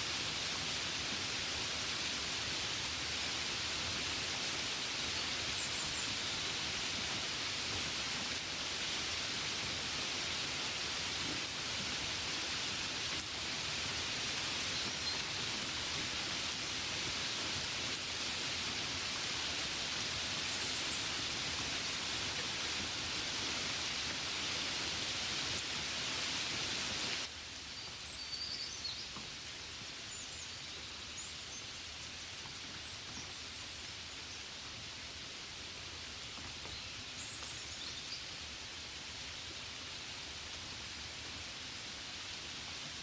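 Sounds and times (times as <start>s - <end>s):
rain hiss: 0.0s - 43.0s.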